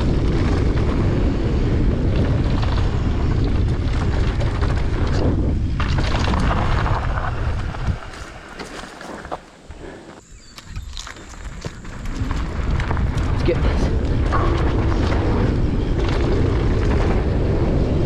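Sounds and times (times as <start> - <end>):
tyre and trail rumble: 0.0 - 18.0
wind buffeting microphone: 0.0 - 18.0.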